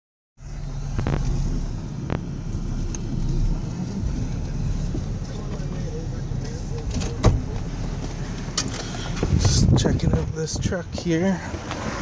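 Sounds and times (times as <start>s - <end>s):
vehicle engine rumble from cabin: 0.4s - 12.0s.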